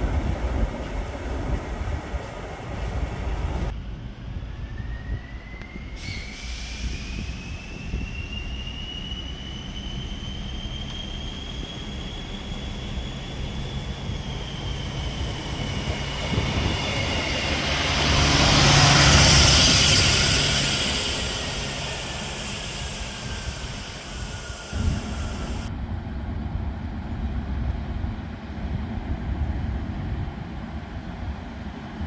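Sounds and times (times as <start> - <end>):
train passing: 0.0 - 32.0.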